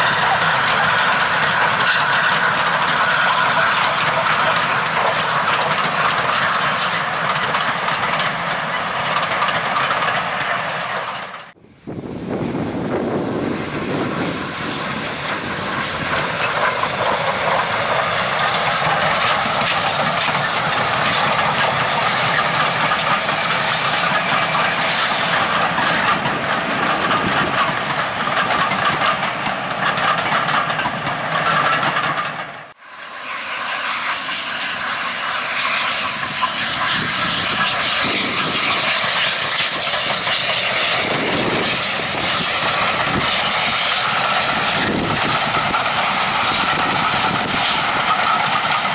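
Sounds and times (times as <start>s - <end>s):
steam locomotive exhaust: 0.0s - 48.9s
train wheels on rails: 0.0s - 48.9s.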